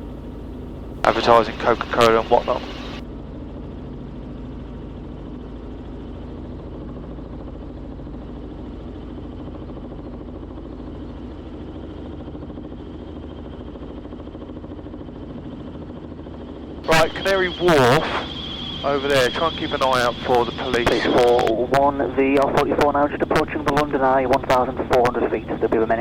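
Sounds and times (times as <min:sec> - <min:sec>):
helicopter drone in flight: 0:00.0 - 0:26.0.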